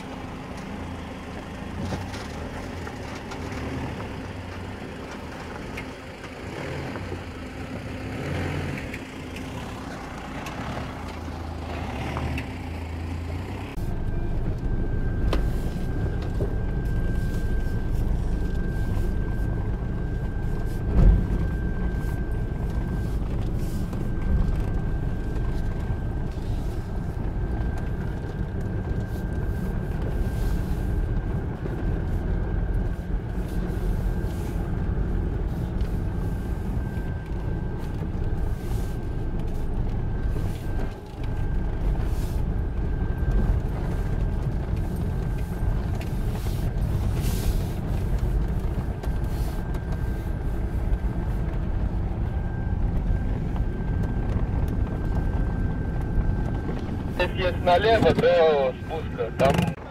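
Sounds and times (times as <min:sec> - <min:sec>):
engine and tyre rumble: 0:00.0 - 0:59.9
body and suspension rattling: 0:08.1 - 0:59.9.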